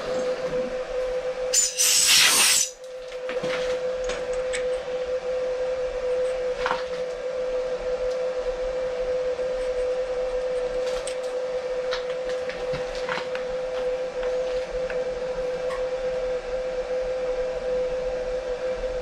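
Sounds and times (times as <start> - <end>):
milling machine whine: 0.0 - 19.0.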